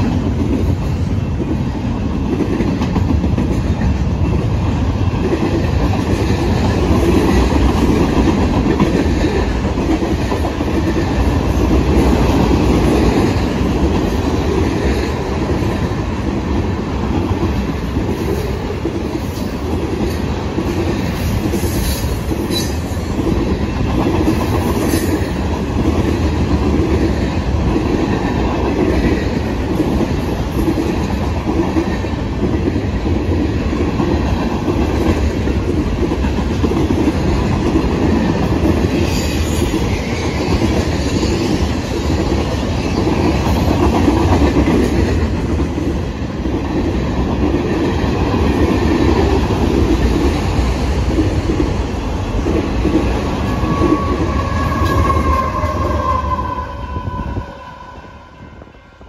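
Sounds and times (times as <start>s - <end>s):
wheels clickety-clack on rail joints: 0.0s - 57.1s
steel wheels rumbling: 0.0s - 58.8s.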